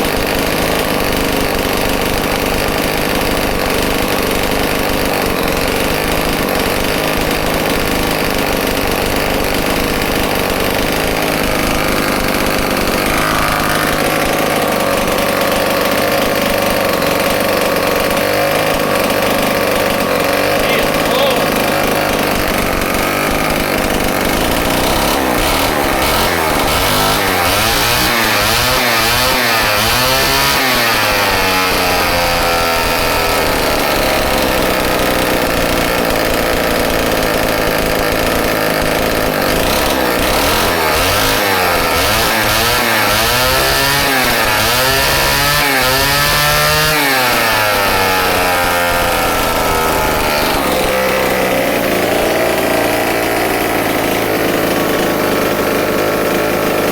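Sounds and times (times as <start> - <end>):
chainsaw engine revving: 0.0 - 56.9.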